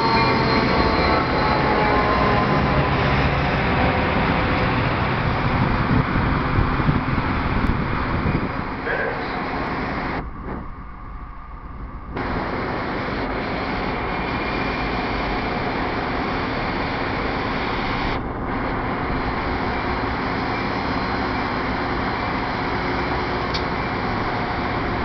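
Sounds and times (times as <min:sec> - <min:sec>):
diesel train rumbling: 0:00.0 - 0:25.0.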